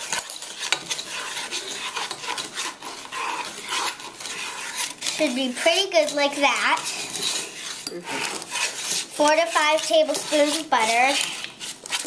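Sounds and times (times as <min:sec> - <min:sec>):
wooden spoon scraping metal pot: 0:00.0 - 0:12.0.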